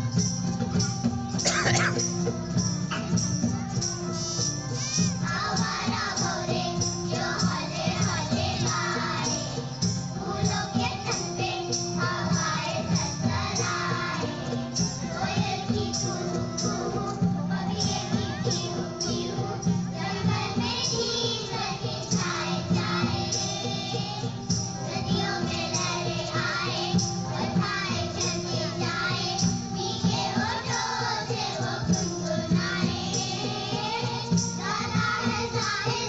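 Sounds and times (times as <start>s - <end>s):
children's choir singing: 0.0s - 36.0s
musical accompaniment: 0.0s - 36.0s.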